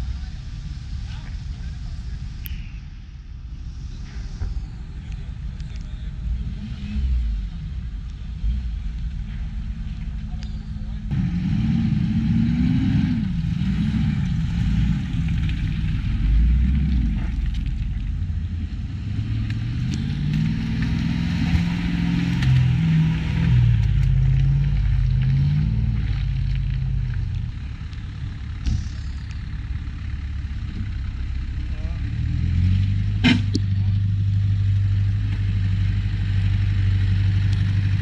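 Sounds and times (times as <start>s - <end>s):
off-road engine revving: 3.7s - 38.0s.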